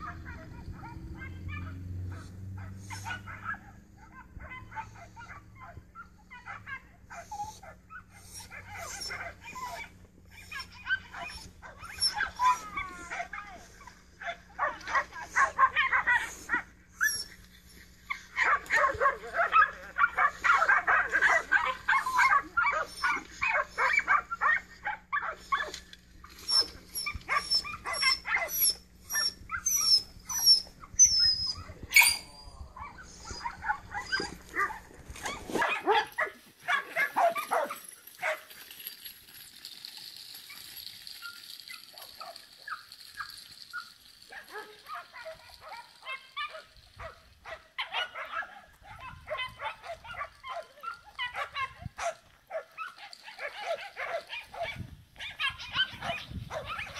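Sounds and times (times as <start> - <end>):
dogs barking and yipping: 0.0 - 56.9
dogs whining yelps: 0.0 - 56.9.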